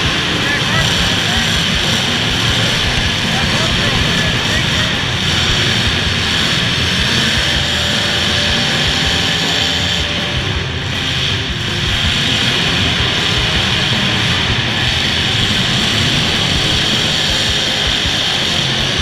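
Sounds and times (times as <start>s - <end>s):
car engines running hard: 0.0s - 19.0s.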